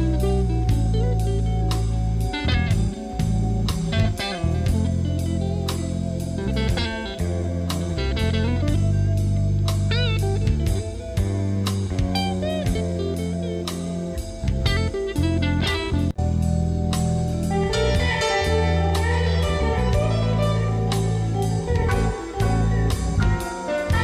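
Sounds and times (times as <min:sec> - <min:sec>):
backing track drums and bass: 0:00.0 - 0:24.0
bluesy electric guitar lead: 0:00.0 - 0:24.0.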